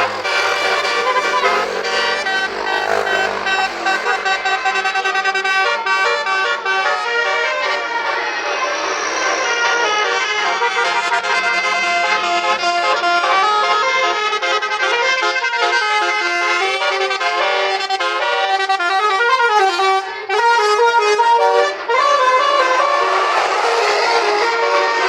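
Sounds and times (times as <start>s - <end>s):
bus air horn playing a tune: 0.0s - 25.0s.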